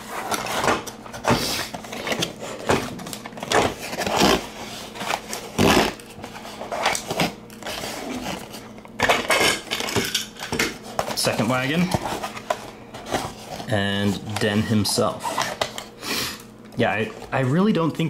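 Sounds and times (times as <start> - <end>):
cardboard rustling and scraping: 0.0 - 9.9, 10.7 - 15.8.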